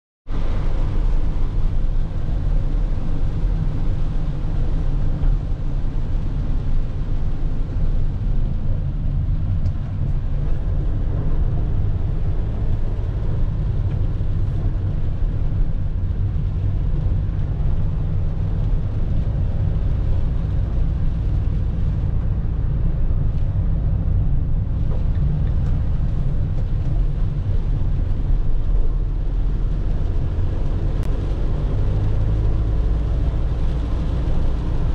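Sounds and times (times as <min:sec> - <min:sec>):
diesel engine drone: 0:00.3 - 0:34.9
tyres hissing on wet road: 0:00.3 - 0:34.9.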